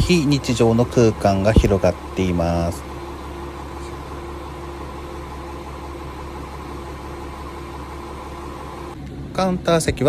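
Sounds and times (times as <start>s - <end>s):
diesel engine idling hum: 0.0s - 10.0s.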